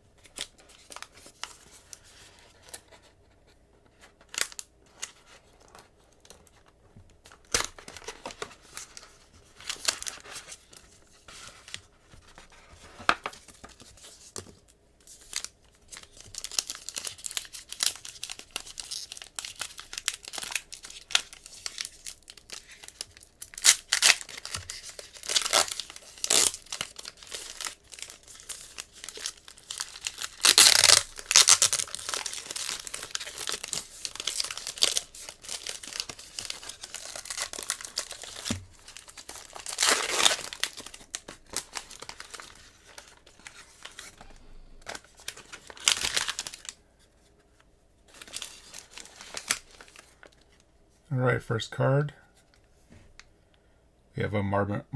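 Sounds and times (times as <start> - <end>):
packaging tearing and crinkling: 0.3 - 2.0, 4.2 - 6.6, 7.3 - 14.4, 15.2 - 46.8, 48.1 - 50.4.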